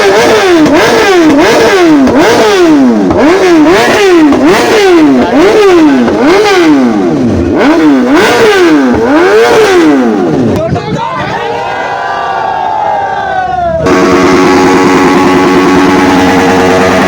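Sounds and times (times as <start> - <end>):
motorcycle engine revving: 0.0 - 10.7, 12.9 - 17.0.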